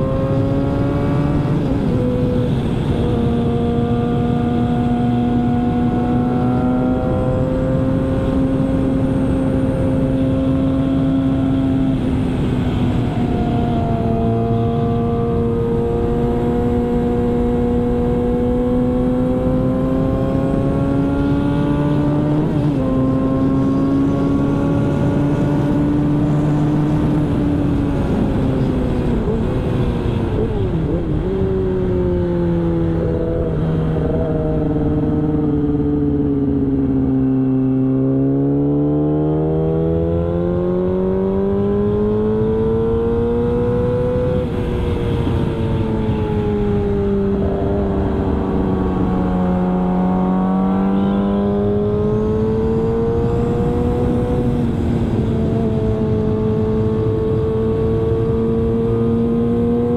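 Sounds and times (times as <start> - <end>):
motorcycle engine at speed: 0.0 - 59.9.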